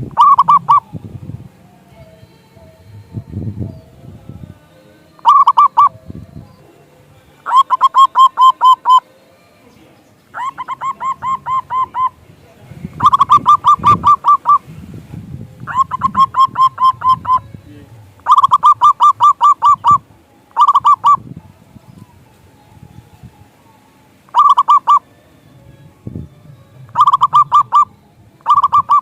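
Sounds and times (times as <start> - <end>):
dove singing: 0.0 - 29.0.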